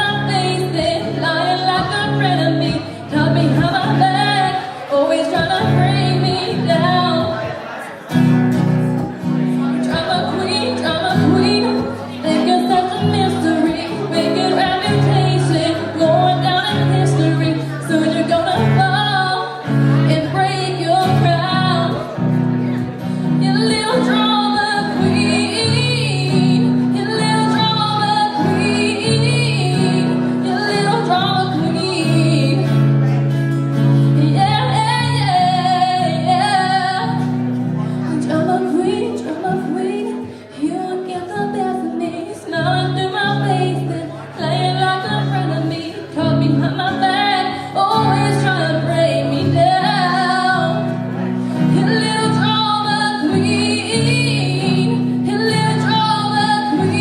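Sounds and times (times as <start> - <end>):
woman singing pop song: 0.0 - 7.6, 9.6 - 22.3, 23.0 - 32.9, 33.7 - 57.0.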